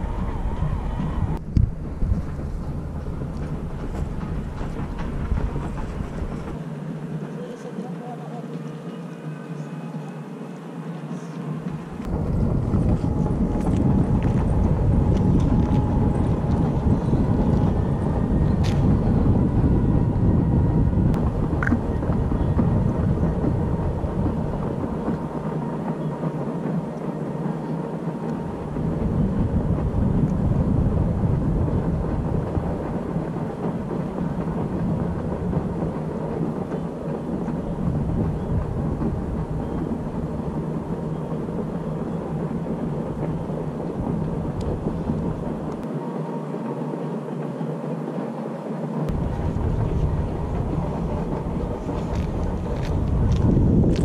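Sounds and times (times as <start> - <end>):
wind buffeting microphone: 0.0 - 6.7, 11.7 - 46.0, 49.1 - 54.0.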